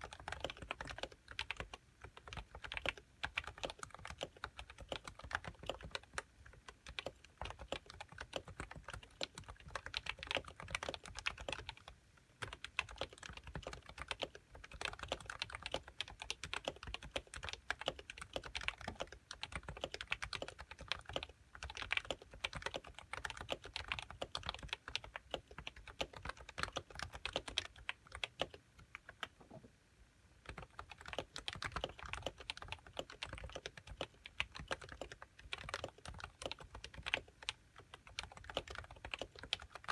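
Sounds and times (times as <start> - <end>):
keyboard typing: 0.0 - 29.6, 30.4 - 39.9.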